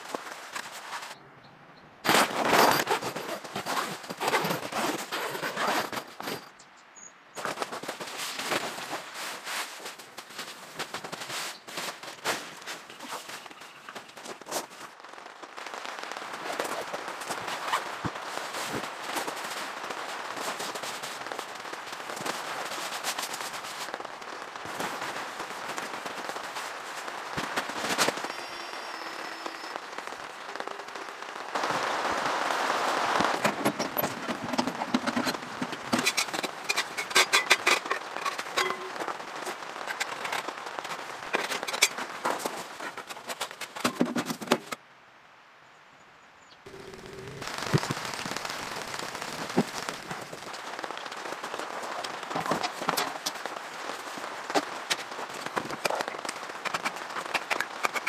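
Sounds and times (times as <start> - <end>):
rain pattering on a tent: 0.0 - 1.2, 7.4 - 44.9, 46.6 - 58.0.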